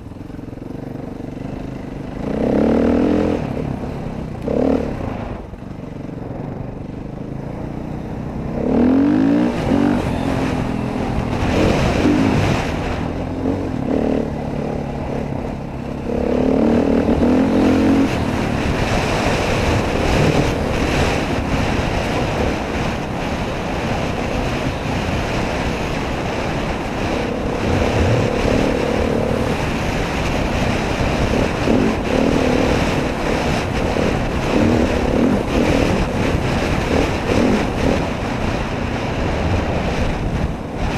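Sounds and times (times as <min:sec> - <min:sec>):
dirt bike engine revving: 0:01.0 - 0:05.5, 0:07.6 - 0:40.9
wind rush over microphone: 0:08.1 - 0:40.9.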